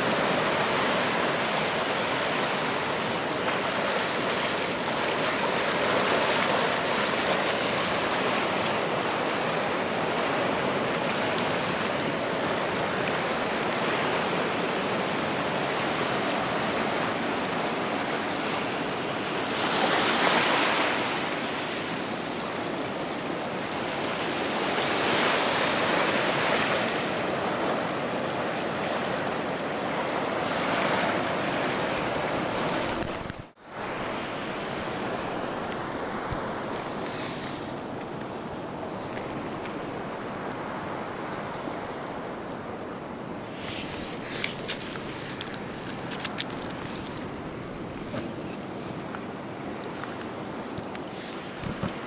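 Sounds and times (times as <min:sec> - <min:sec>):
waves washing up a beach: 0:00.0 - 0:52.0.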